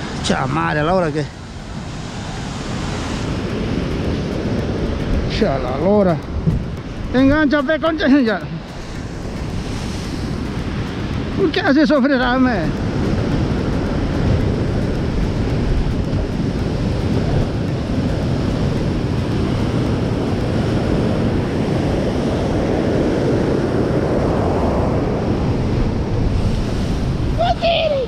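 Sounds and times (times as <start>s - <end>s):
surf on rocky shore: 0.0s - 28.0s
wind on microphone: 0.0s - 28.0s.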